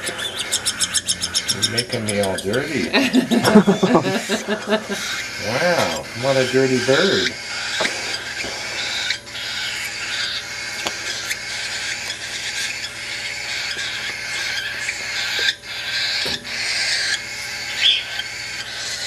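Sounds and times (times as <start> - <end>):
baby cockatiel begging calls: 0.0 - 2.9, 5.0 - 19.0.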